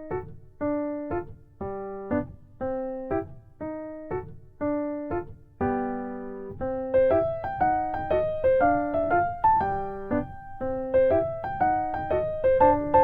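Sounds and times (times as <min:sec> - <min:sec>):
playful piano melody: 0:00.0 - 0:13.0.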